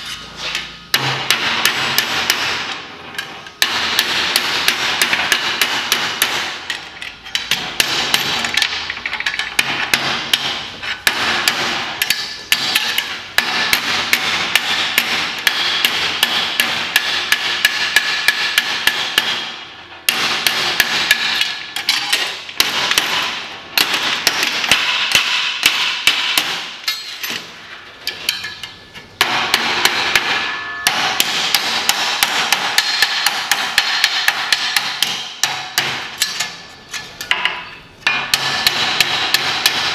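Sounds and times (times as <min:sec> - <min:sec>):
hammer striking sheet metal: 0:00.0 - 0:39.9.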